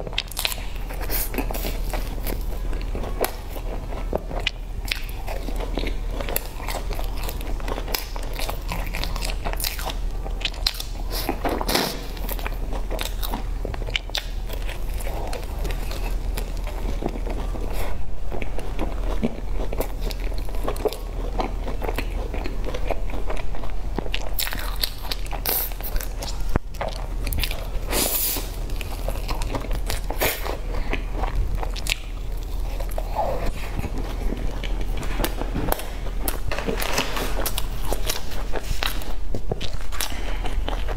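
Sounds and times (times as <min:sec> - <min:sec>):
low steady hum: 0:00.0 - 0:40.9
pastry being bitten and chewed: 0:00.0 - 0:40.9.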